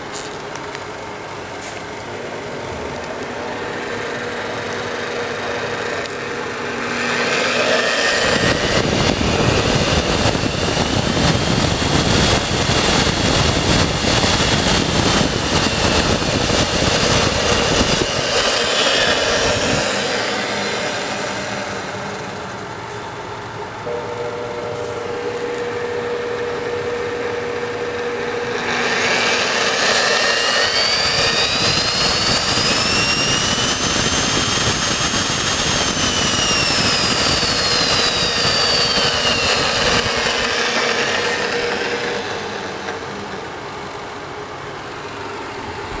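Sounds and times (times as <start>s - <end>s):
steady electric hum: 0.0s - 46.0s
drill motor whining: 3.0s - 22.7s, 23.9s - 43.7s.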